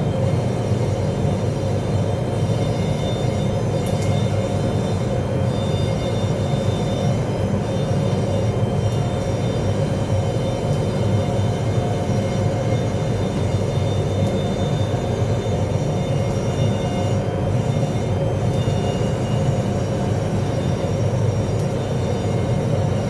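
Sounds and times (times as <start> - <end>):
machine hum and rumble: 0.0 - 23.0.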